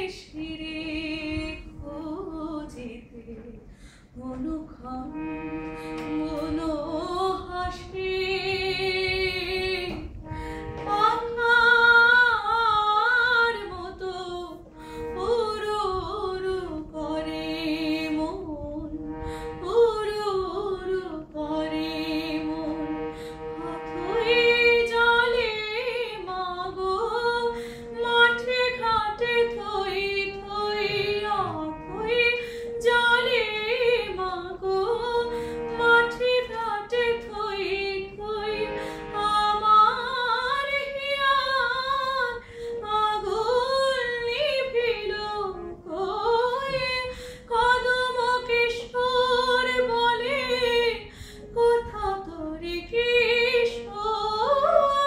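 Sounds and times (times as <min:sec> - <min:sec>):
woman singing: 0:00.0 - 0:05.3, 0:06.0 - 0:22.8, 0:23.6 - 0:55.0
harmonium held notes: 0:00.0 - 0:55.0.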